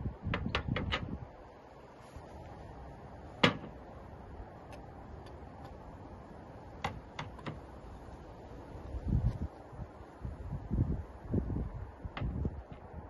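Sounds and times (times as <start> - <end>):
garden background: 0.0 - 13.0.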